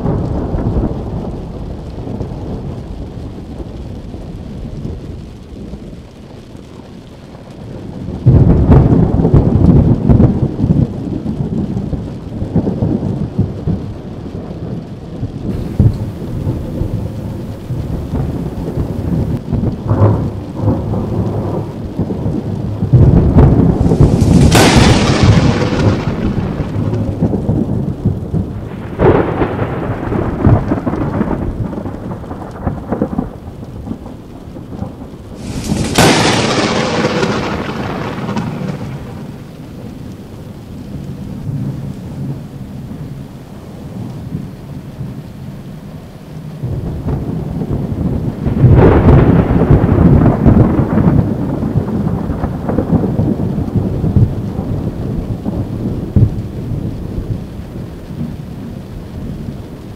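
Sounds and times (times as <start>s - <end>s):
thunder cracks and rumbles: 0.0s - 45.3s, 46.5s - 59.9s
rain: 0.0s - 59.9s.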